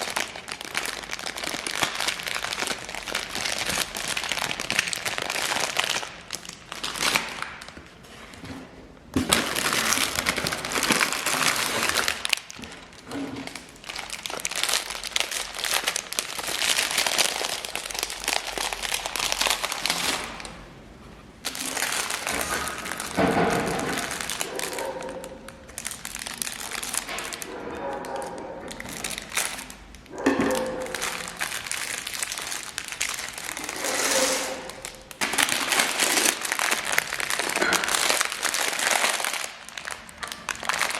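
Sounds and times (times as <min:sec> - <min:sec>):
plastic packaging crinkling: 0:00.0 - 0:20.8, 0:21.4 - 0:40.9.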